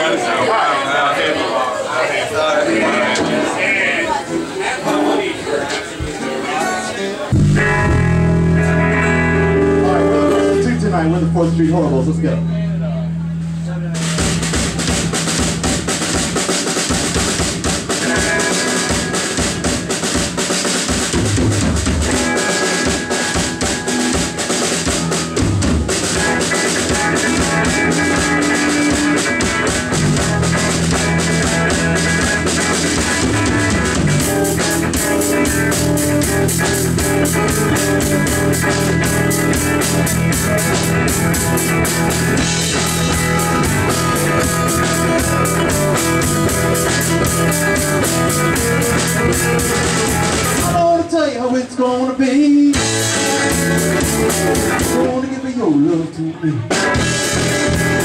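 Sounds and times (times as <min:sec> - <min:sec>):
electric guitars: 0:02.6 - 0:58.0
rock band playing live: 0:02.6 - 0:58.0
drum kit beat: 0:07.3 - 0:51.0, 0:52.7 - 0:55.2, 0:56.7 - 0:58.0.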